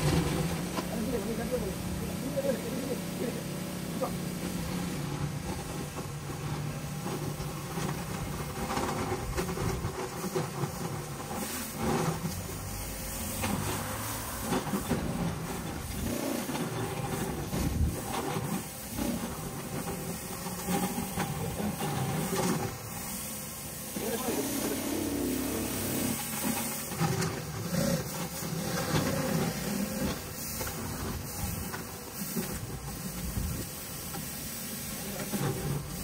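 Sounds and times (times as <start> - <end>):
machine running hum: 0.0 - 36.0
pressure washer water jets hissing: 0.0 - 36.0.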